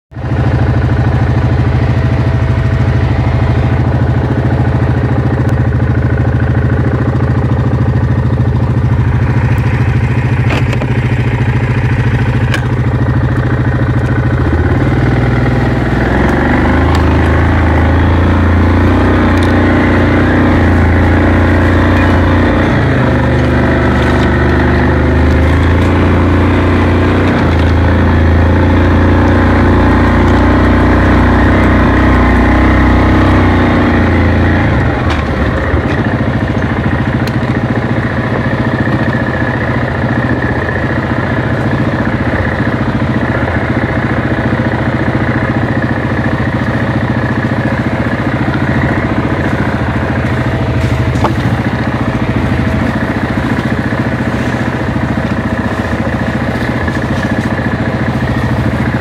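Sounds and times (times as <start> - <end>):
atv engine idling: 0.1 - 59.0.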